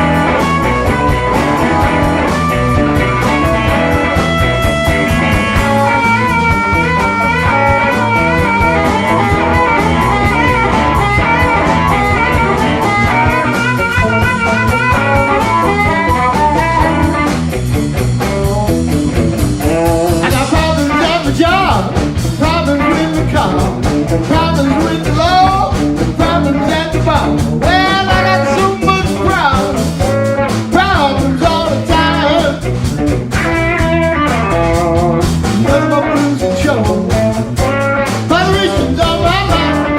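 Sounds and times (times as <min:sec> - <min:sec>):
bending lead guitar line: 0:00.0 - 0:39.9
blues band playing: 0:00.0 - 0:39.9.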